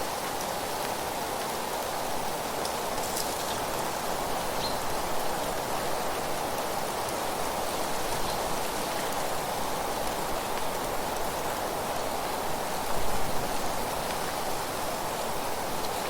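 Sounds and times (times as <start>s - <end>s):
wind rustling leaves: 0.0s - 16.0s.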